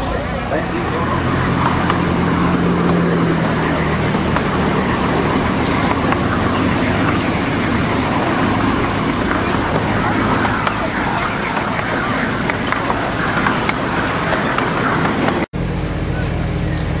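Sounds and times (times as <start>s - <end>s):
low hum: 0.0s - 17.0s
miniature train rumbling on track: 0.0s - 17.0s.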